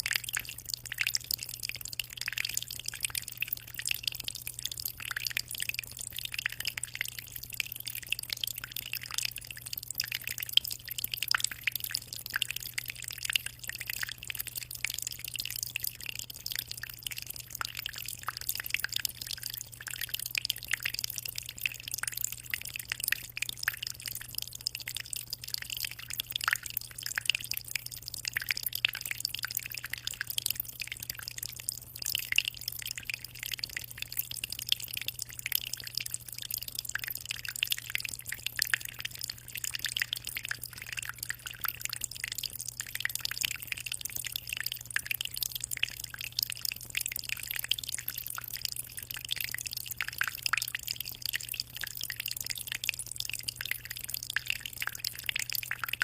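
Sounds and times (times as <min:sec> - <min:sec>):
aquarium water trickling: 0:00.0 - 0:56.0.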